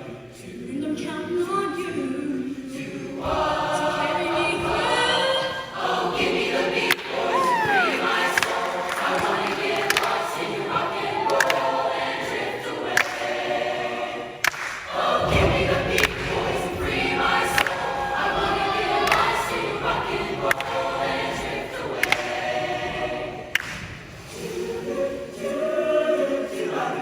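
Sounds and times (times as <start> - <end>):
choir singing in harmony: 0.0 - 27.0.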